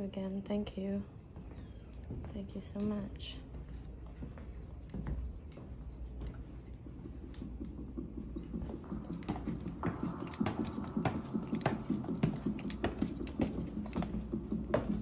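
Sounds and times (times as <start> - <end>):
footsteps on wooden stairs: 1.4 - 15.0.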